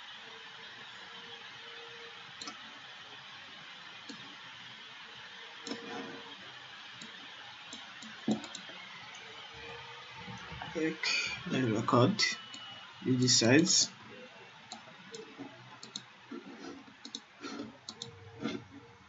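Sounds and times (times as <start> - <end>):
steady hiss: 0.0 - 18.6.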